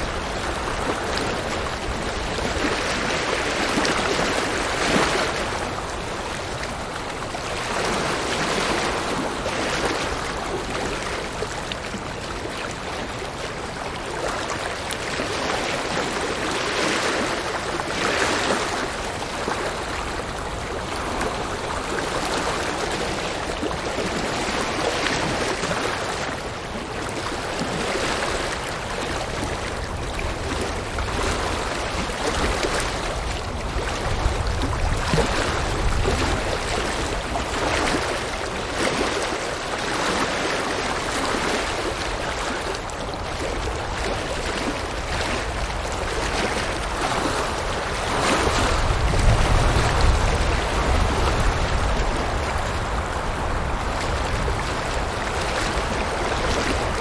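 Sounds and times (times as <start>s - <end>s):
river water rushing over rocks: 0.0s - 57.0s
wind rumbling on microphone: 0.0s - 57.0s.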